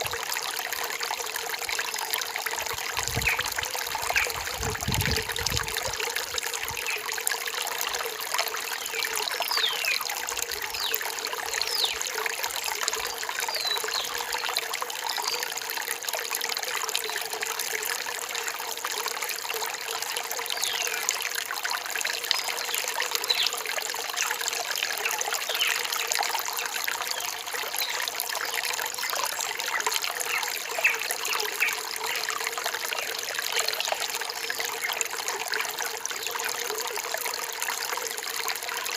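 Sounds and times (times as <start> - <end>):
stream trickling over rocks: 0.0 - 38.9.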